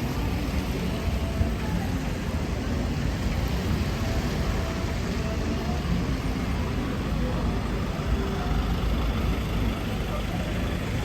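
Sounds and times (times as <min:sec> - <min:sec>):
wet road traffic hiss: 0:00.0 - 0:11.0.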